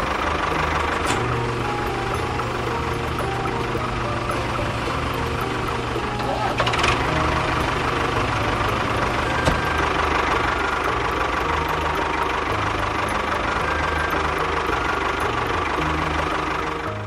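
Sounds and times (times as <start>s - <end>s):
tractor engine knocking: 0.0s - 17.0s.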